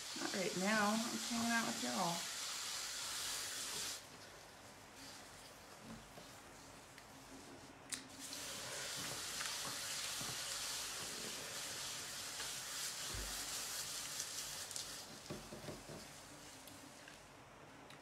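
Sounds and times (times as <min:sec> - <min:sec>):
wet clay swishing on pottery wheel: 0:00.0 - 0:17.3.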